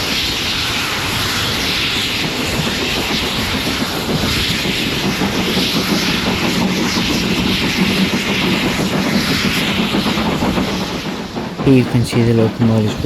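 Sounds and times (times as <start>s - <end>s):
steam locomotive exhaust roar: 0.0s - 13.0s.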